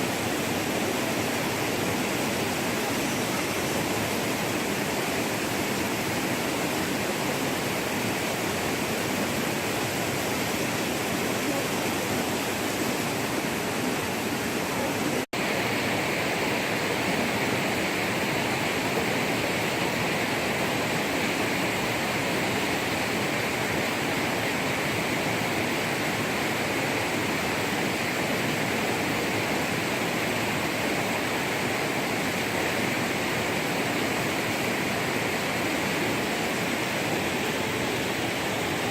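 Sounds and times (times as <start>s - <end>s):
rushing stream water: 0.0s - 38.9s.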